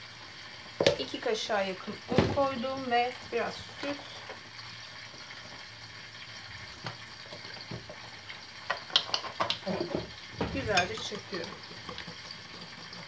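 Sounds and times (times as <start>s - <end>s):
peppers sizzling in oil: 0.0s - 13.0s.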